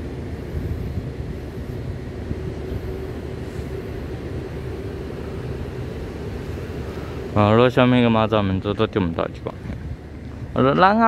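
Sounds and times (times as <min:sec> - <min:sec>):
diesel locomotive idling: 0:00.0 - 0:11.0
faint steady hum: 0:00.0 - 0:11.0.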